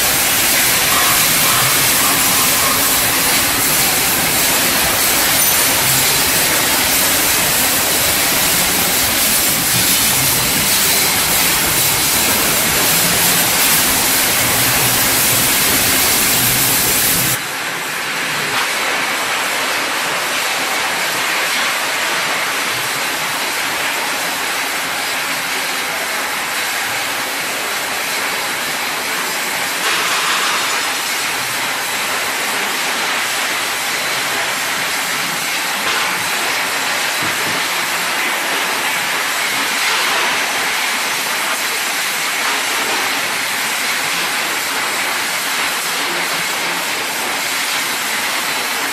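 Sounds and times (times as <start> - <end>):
machine hum and hiss: 0.0 - 48.9.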